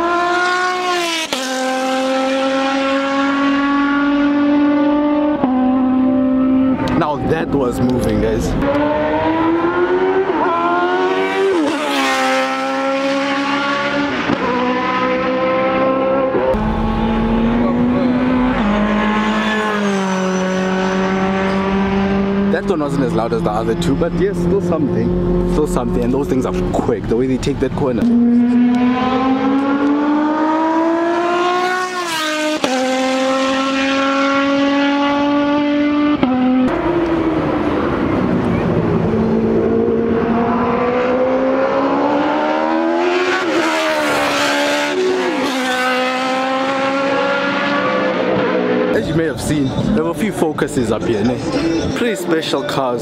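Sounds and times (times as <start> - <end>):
race car engines accelerating: 0.0 - 53.0
race car passing close: 0.0 - 53.0.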